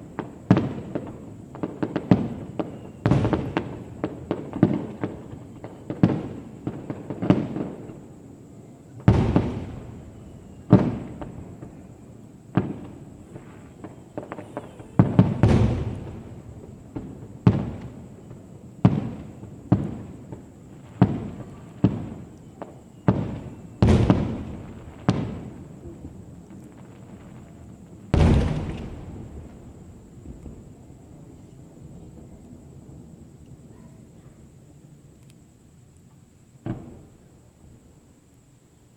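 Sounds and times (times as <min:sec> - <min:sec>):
fireworks bangs with echo: 0:00.0 - 0:08.2, 0:08.9 - 0:32.9, 0:36.6 - 0:37.3.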